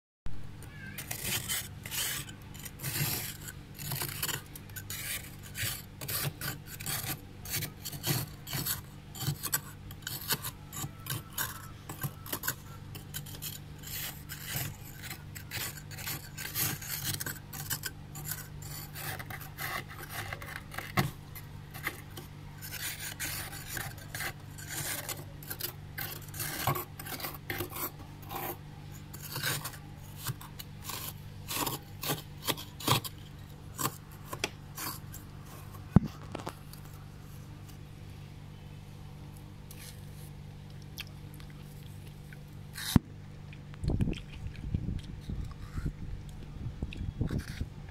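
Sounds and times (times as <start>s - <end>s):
spoon scraping frost: 0.6s - 37.9s, 39.7s - 40.4s, 41.4s - 43.0s, 47.2s - 47.9s.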